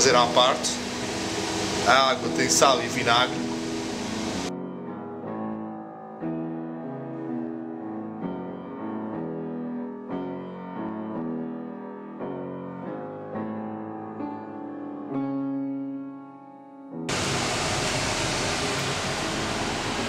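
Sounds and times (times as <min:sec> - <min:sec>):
slow piano music: 0:00.0 - 0:17.2.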